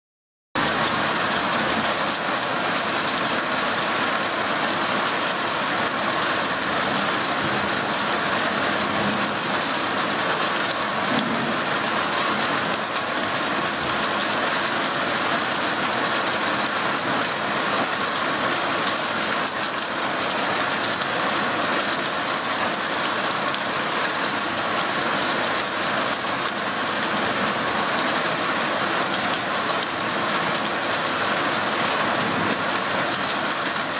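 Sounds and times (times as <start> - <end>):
hail and heavy rain falling: 0.6 - 33.9.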